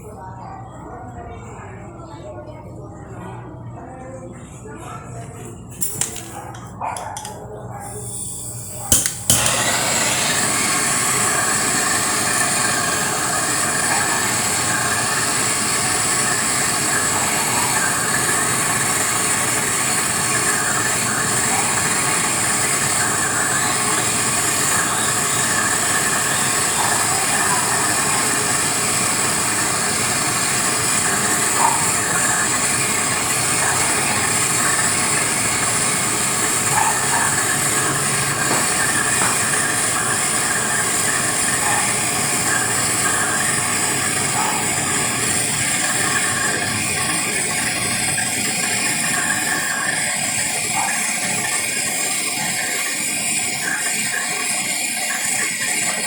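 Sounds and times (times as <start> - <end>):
loud steady hissing: 7.8 - 56.0.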